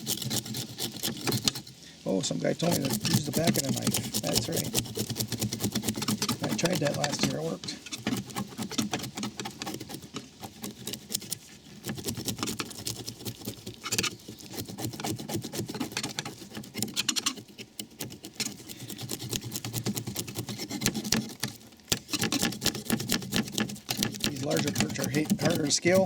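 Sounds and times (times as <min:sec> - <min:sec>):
knife scraping fish scales: 0:00.0 - 0:26.0.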